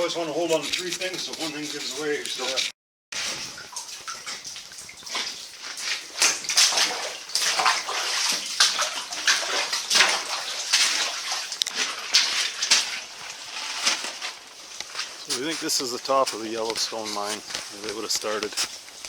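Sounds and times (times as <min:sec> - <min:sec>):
footsteps splashing through water: 0:03.2 - 0:19.0.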